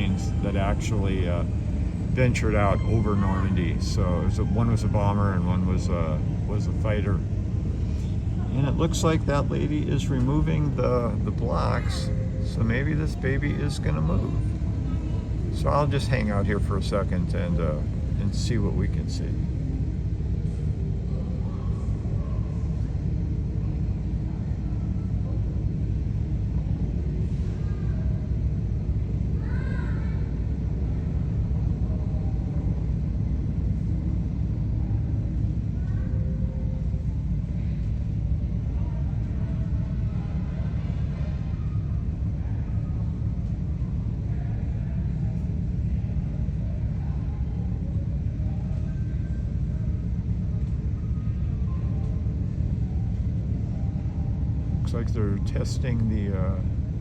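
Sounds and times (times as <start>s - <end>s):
piston aircraft engines idling: 0.0s - 57.0s.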